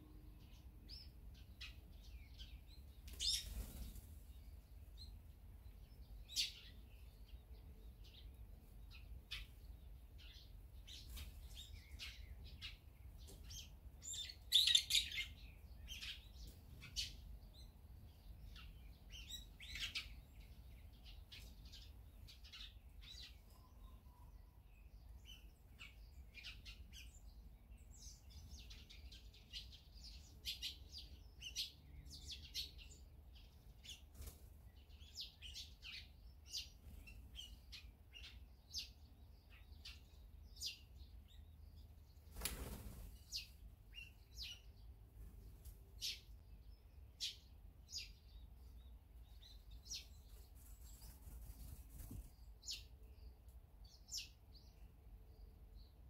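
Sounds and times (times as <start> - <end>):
small songbirds chirping: 0.0 - 56.0.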